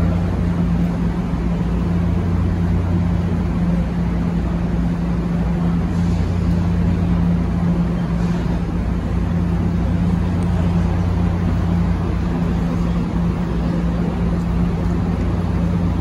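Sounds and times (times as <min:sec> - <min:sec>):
idling train drone: 0:00.0 - 0:16.0.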